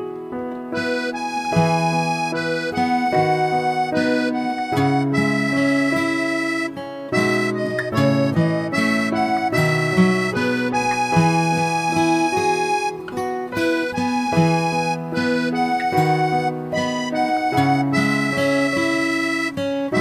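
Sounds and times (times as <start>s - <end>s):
melody over sustained chords: 0.0s - 20.0s.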